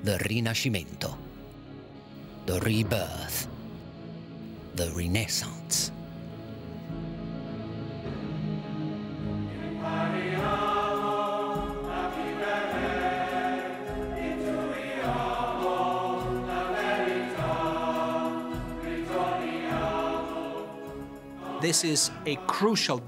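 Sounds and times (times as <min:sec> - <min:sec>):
choir singing sustained chords: 0:00.8 - 0:23.0.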